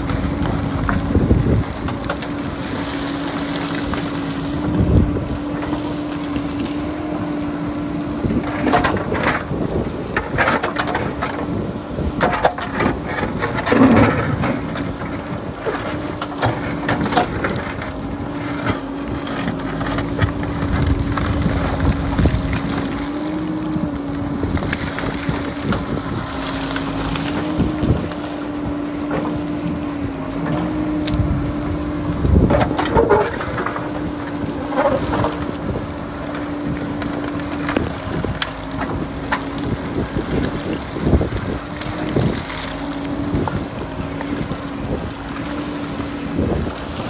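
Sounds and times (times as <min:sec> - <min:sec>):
diesel engine running: 0:00.0 - 0:47.0
wind buffeting microphone: 0:00.0 - 0:47.0.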